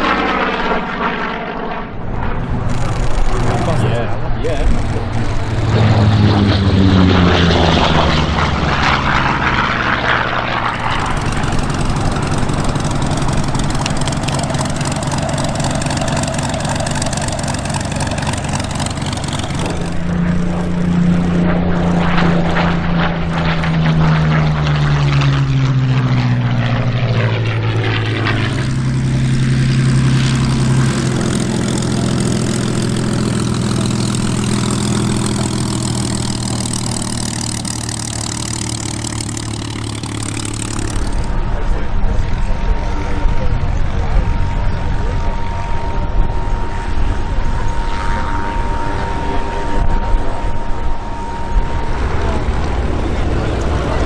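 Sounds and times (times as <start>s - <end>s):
propeller aircraft flying past: 0.0s - 54.0s.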